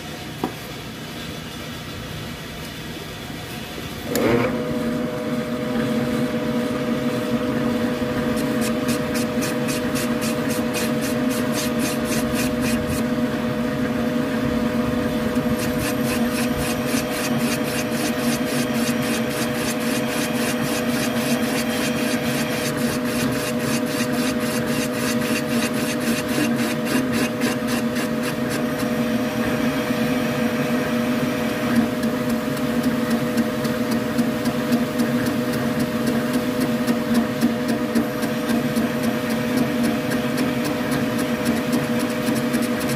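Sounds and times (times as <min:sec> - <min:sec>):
boring tool humming: 0:04.0 - 0:42.9.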